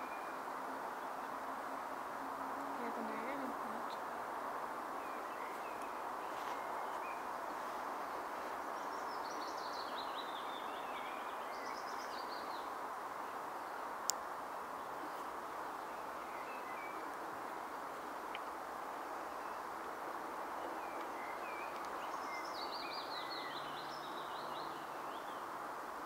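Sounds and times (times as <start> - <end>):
outdoor background noise: 0.0 - 26.0
songbird singing: 0.0 - 26.0.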